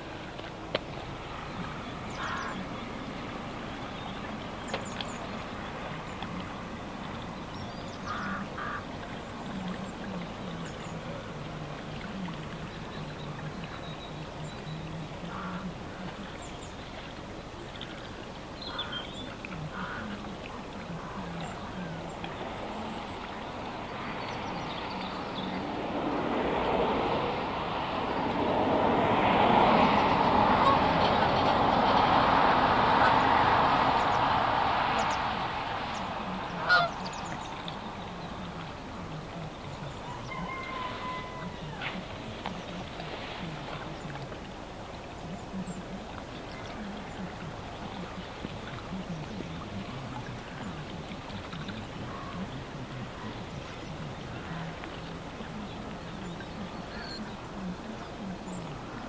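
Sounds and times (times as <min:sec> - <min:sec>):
road traffic rushing: 0:00.0 - 0:09.1, 0:18.7 - 0:59.0.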